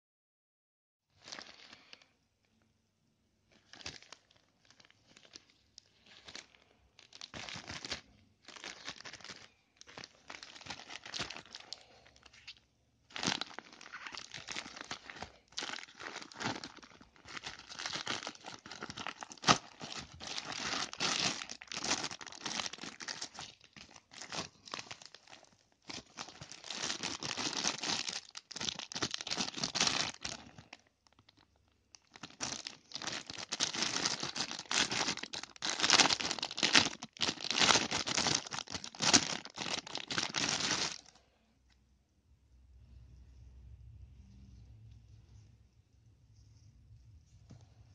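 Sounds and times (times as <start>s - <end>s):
plastic packaging crinkling: 1.1s - 2.1s, 3.5s - 41.2s.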